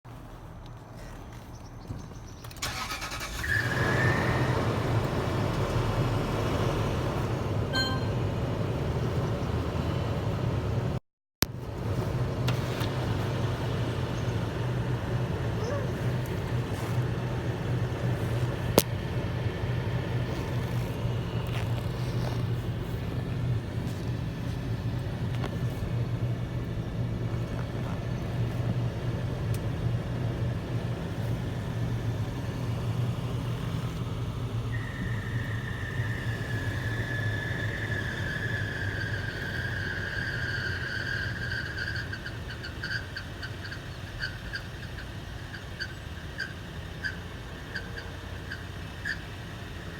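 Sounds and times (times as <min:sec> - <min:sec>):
engine running with low hum: 0:00.1 - 0:49.9.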